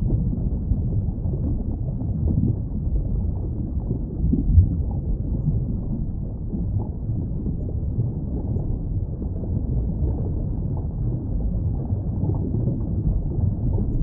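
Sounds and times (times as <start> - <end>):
underwater rumbling: 0.0 - 14.0.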